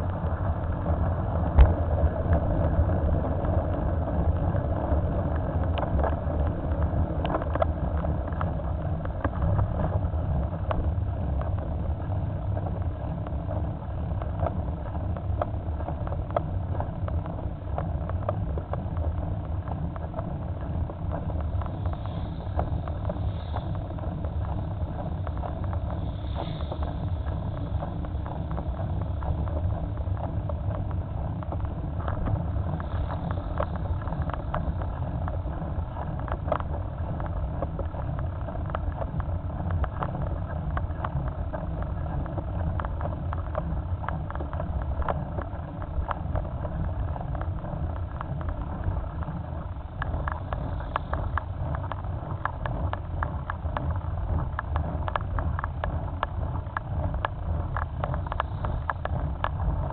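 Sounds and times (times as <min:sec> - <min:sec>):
small crackles: 0:00.0 - 0:59.9
wind on microphone: 0:00.0 - 0:59.9.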